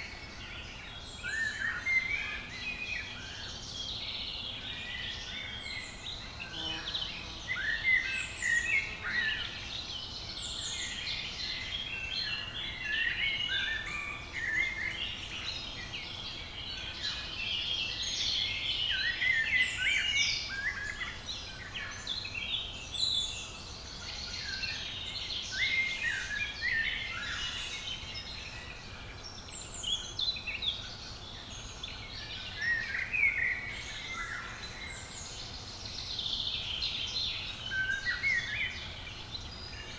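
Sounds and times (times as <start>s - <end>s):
faint steady hiss: 0.0s - 39.9s
songbirds chirping and trilling: 0.0s - 39.9s.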